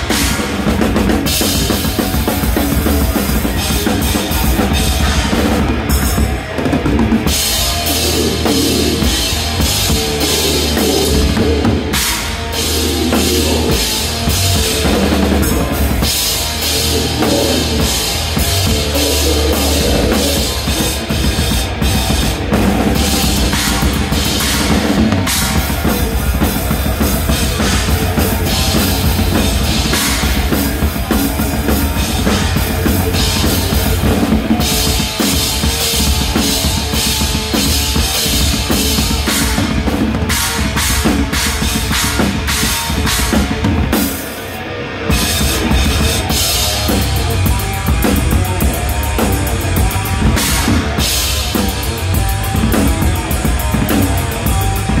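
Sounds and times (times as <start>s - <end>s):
drum kit played hard: 0.0s - 55.0s
live band playing: 0.0s - 55.0s.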